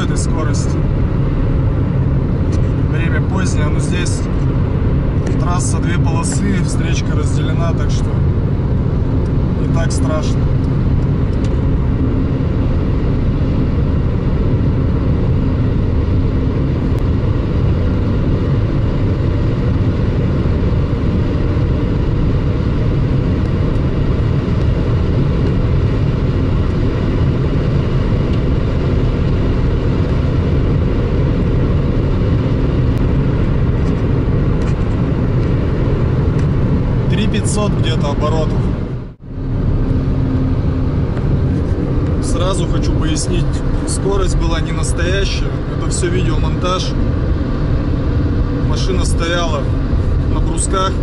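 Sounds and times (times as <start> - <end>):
car engine running steadily: 0.0 - 51.0.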